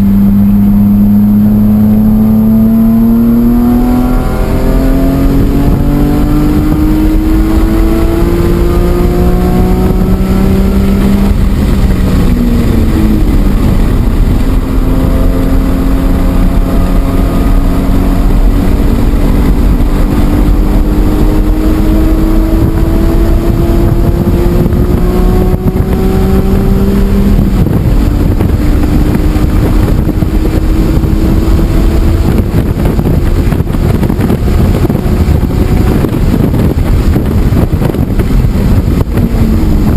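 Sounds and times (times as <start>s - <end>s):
car engine at full throttle: 0.0s - 39.9s
road and wind rumble inside car: 0.0s - 39.9s.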